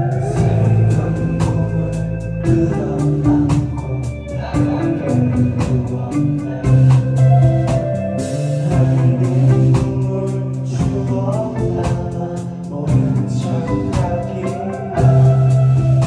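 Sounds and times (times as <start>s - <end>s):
rock band playing live: 0.0s - 16.0s
steady drum beat: 0.0s - 16.0s.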